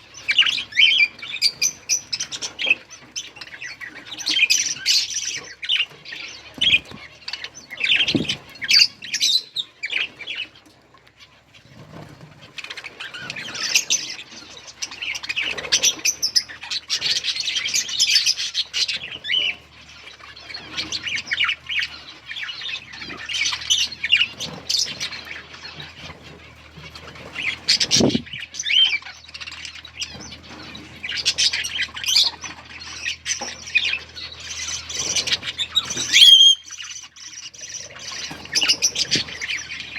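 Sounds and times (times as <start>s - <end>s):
budgerigars chattering: 0.0s - 39.9s
wings fluttering: 0.0s - 39.9s.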